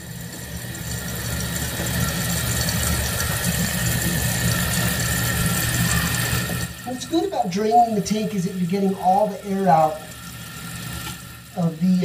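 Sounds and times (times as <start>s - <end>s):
fill valve hissing: 0.0s - 12.0s
toilet flushing: 0.0s - 12.0s.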